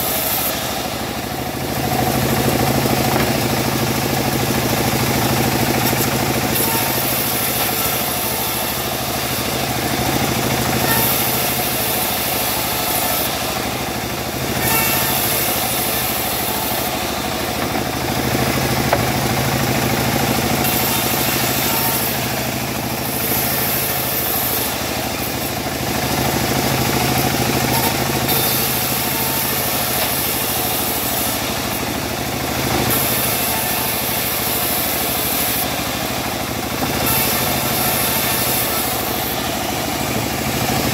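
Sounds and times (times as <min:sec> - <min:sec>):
band saw blade cutting log: 0:00.0 - 0:40.9
sawmill machine hum: 0:00.0 - 0:40.9.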